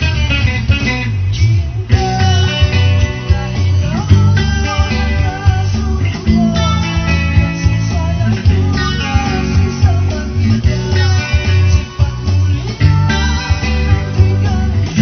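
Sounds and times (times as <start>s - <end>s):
rock band music with guitar: 0.0s - 15.0s.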